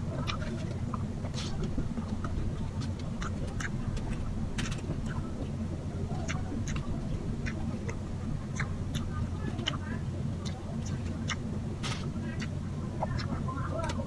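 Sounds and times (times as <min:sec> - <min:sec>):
low hum: 0:00.0 - 0:14.0
person chewing with lip smacks: 0:00.0 - 0:14.0.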